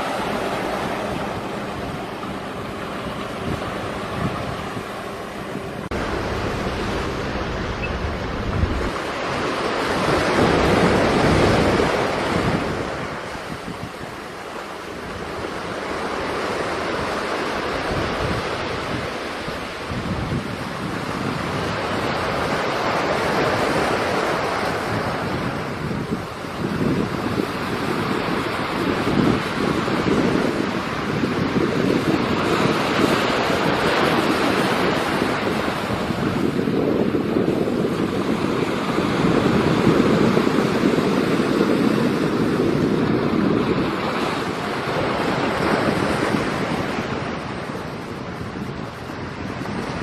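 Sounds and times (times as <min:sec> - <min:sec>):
sea waves washing: 0:00.0 - 0:50.0
wind buffeting microphone: 0:00.0 - 0:50.0.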